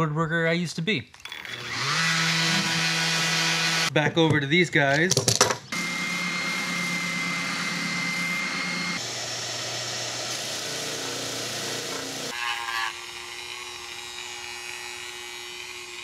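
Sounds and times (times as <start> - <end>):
power sander on wood: 1.3 - 3.9, 5.7 - 16.0.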